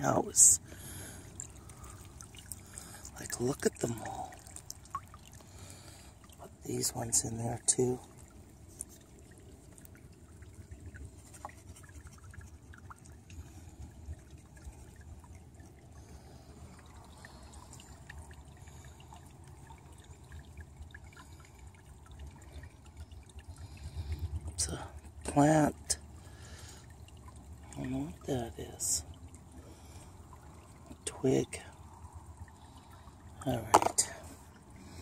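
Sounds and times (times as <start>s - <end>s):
water trickling and dripping: 0.0s - 35.0s.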